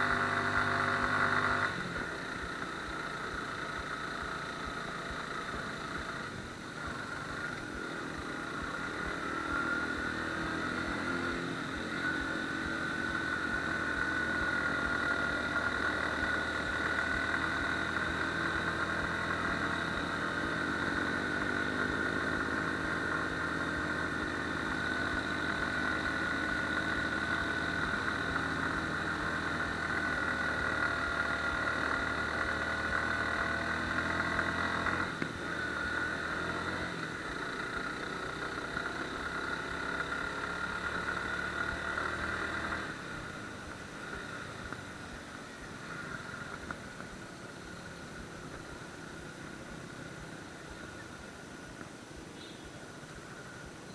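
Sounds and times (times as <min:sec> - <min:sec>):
motorcycle engine running: 0:00.0 - 0:53.9
steady high whine: 0:00.0 - 0:53.9.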